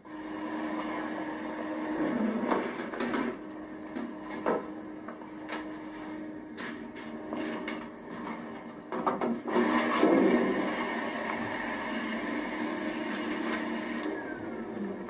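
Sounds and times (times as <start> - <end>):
vacuum cleaner on hard floor: 0.0 - 15.0.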